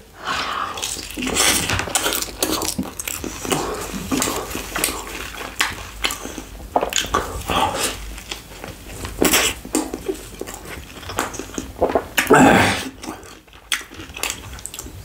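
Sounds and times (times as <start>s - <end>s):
chewing and biting food: 0.7s - 15.0s.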